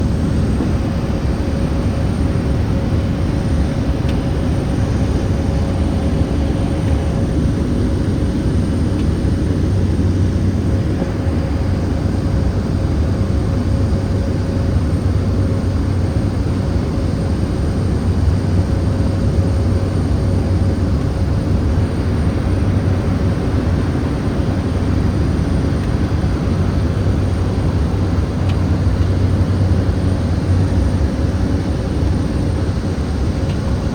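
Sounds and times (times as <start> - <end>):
propeller drone: 0.0 - 33.9.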